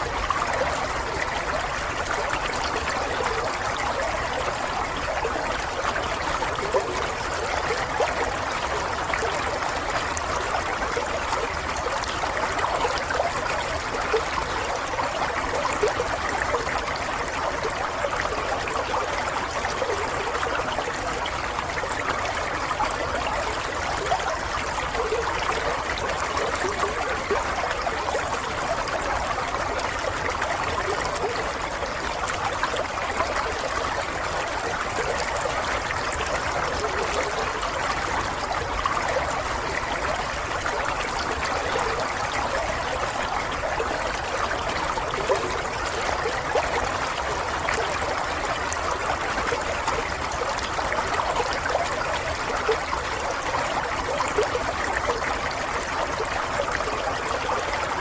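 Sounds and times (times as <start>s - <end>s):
water trickling and babbling: 0.0s - 58.0s.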